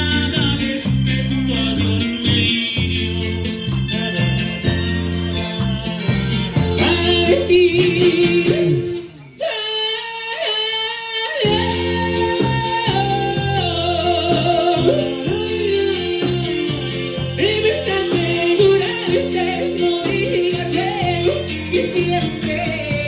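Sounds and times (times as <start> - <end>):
live band playing: 0.0 - 9.4, 11.4 - 23.0.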